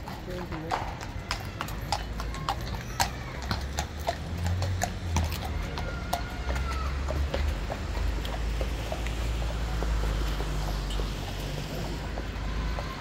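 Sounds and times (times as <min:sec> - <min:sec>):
hooves clip-clopping on wet paving: 0:00.0 - 0:13.0.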